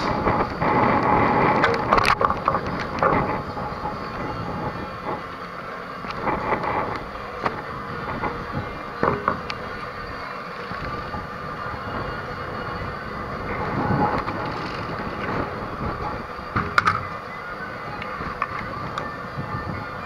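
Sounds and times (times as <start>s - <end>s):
rumbling outdoor noise: 0.0s - 20.0s.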